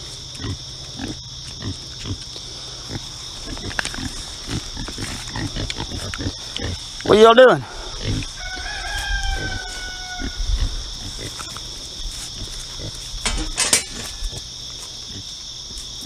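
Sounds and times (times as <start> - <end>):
crickets chirring: 0.0 - 16.0
pigs grunting and rooting: 0.0 - 16.0
pigs scuffling: 0.0 - 16.0.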